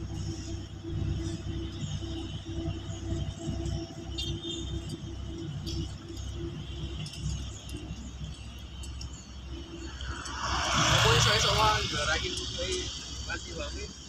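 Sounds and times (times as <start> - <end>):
distant heavy machinery rumble: 0.0 - 14.0.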